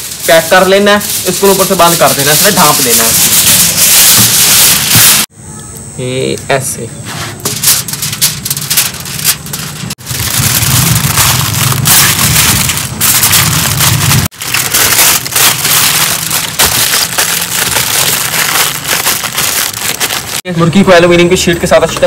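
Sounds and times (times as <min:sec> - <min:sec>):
foil crinkling: 0:00.0 - 0:05.3, 0:07.4 - 0:20.5.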